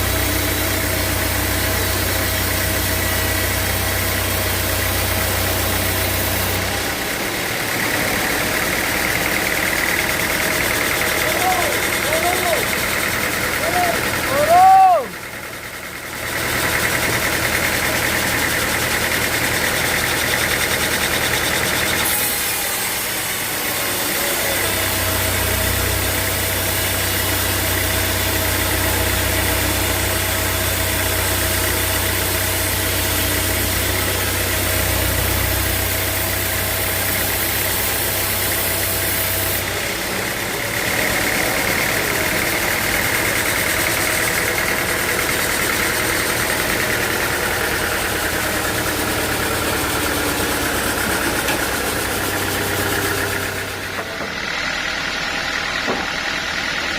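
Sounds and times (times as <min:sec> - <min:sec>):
heavy machinery running: 0:00.0 - 0:56.9
sawmill engine running: 0:00.0 - 0:56.9.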